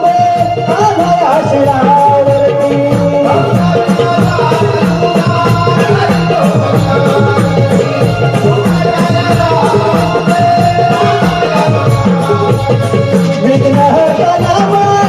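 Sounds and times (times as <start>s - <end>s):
hand drum fast rhythm: 0.0s - 15.0s
held melody line: 0.0s - 15.0s.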